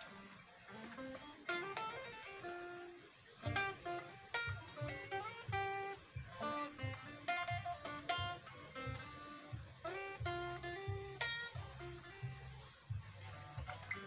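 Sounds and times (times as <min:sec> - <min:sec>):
unamplified electric guitar playing: 0:00.0 - 0:14.0.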